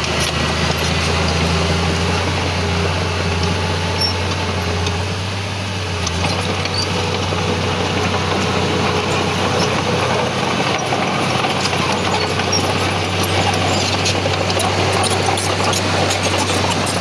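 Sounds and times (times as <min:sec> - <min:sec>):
diesel machinery engine hum: 0:00.0 - 0:17.0.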